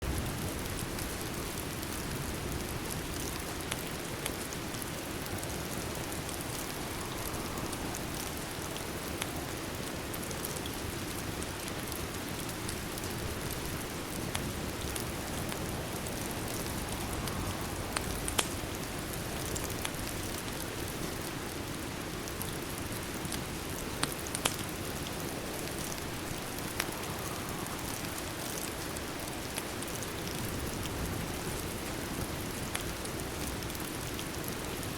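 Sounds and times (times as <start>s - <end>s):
rain falling: 0.0s - 34.9s
wood fire crackling and popping: 0.1s - 34.9s.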